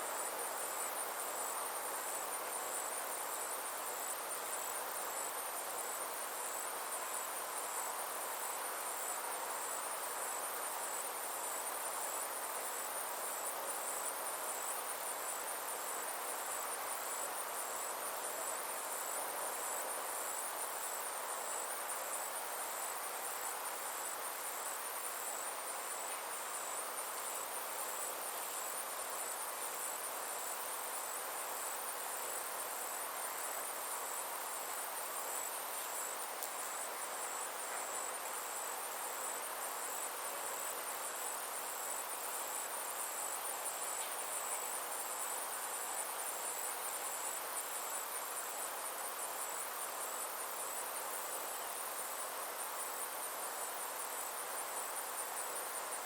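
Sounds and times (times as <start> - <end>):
insects trilling: 0.0 - 56.0
soft even hiss: 0.0 - 56.0.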